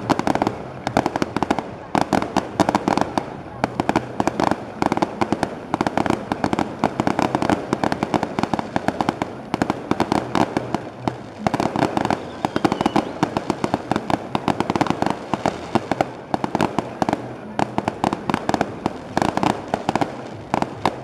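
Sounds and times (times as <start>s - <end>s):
fireworks popping and crackling: 0.0s - 21.0s.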